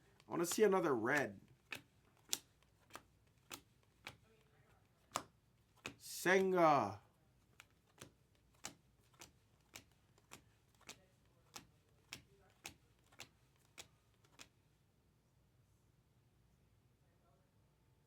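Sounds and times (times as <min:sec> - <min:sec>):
trading cards flipping: 0:00.0 - 0:14.5.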